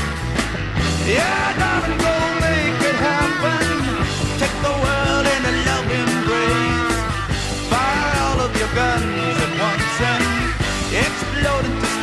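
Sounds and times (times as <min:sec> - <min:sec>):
bass: 0:00.0 - 0:12.0
drums: 0:00.0 - 0:12.0
rock music: 0:00.0 - 0:12.0
sliding lead guitar line: 0:00.0 - 0:12.0.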